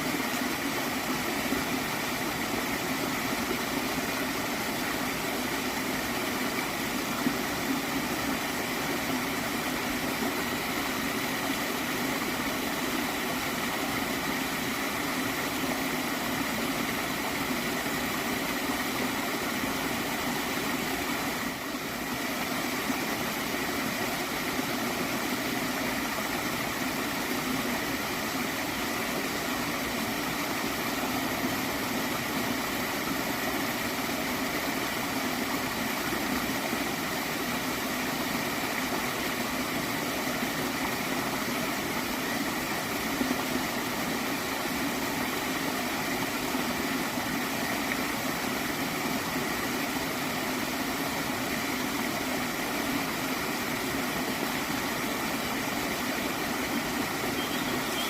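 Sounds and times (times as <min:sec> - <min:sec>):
stream gurgling: 0:00.0 - 0:58.0.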